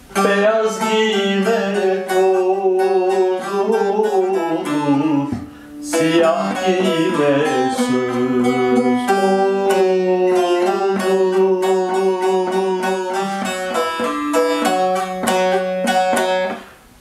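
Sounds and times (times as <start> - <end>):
long-necked lute folk melody: 0.0 - 16.8.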